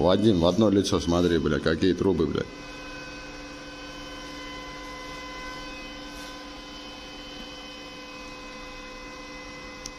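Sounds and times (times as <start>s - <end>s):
constant high tones: 0.0s - 9.9s
steady machine hum: 0.0s - 9.9s.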